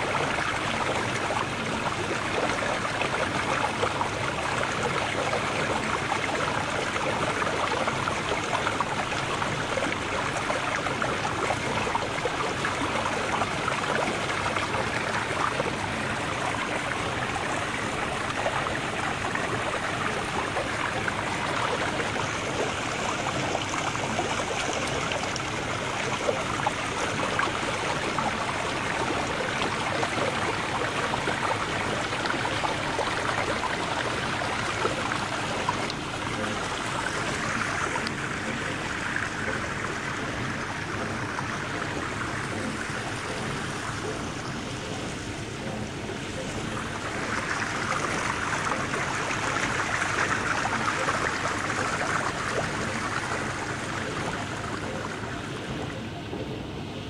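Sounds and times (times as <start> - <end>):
running water trickling: 0.0 - 57.0.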